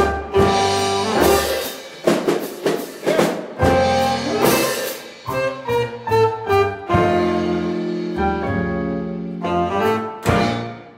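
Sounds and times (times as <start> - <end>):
swing band playing: 0.0 - 10.9.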